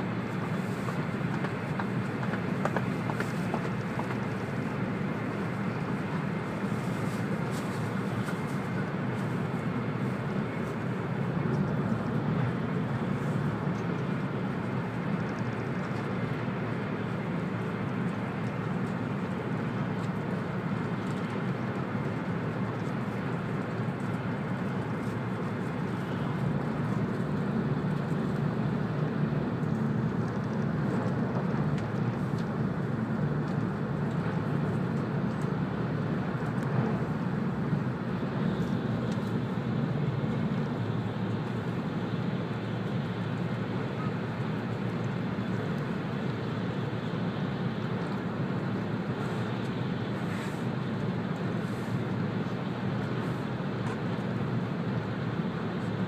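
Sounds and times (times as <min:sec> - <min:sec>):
train cabin running drone: 0:00.0 - 0:56.0.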